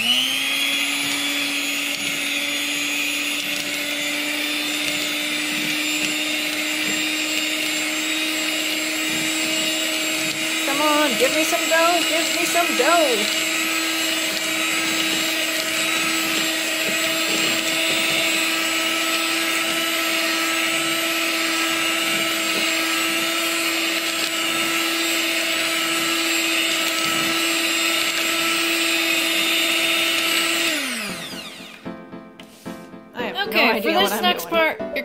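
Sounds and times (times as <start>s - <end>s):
electric hand mixer whining: 0.0s - 32.2s, 33.4s - 34.7s.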